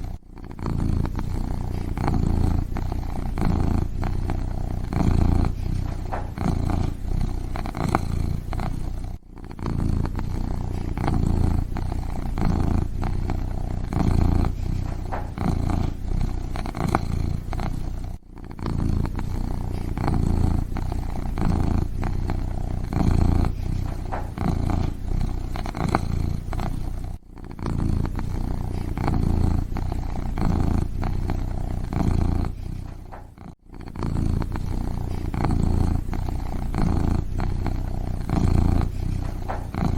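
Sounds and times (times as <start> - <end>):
kitten purring: 0.0 - 39.9.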